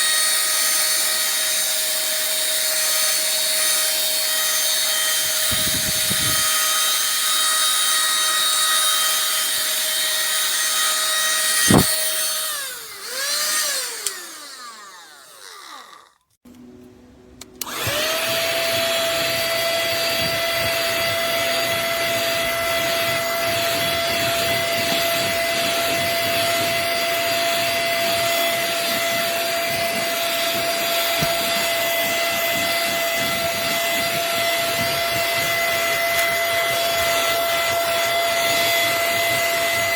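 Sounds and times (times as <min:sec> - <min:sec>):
mini vacuum motor whine: 0:00.0 - 0:16.2, 0:17.5 - 0:39.9.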